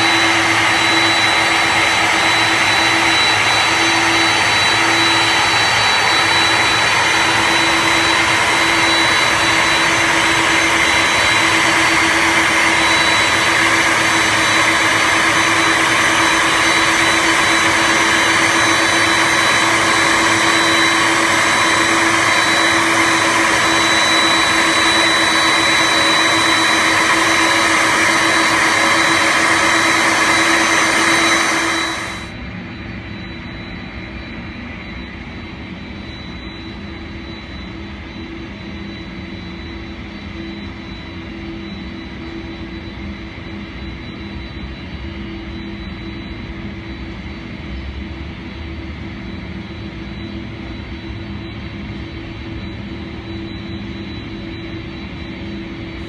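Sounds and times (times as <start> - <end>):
jet turbine whine: 0.0 - 56.0.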